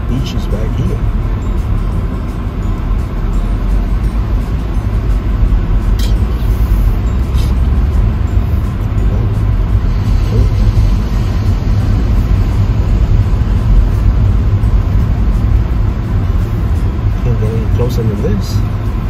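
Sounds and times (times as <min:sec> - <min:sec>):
car driving slowly: 0:00.0 - 0:19.0.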